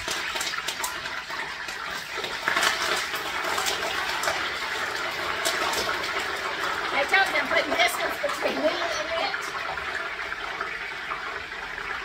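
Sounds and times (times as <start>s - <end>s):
hot oil sizzling: 0.0s - 12.0s
oil crackling and popping: 0.0s - 12.0s.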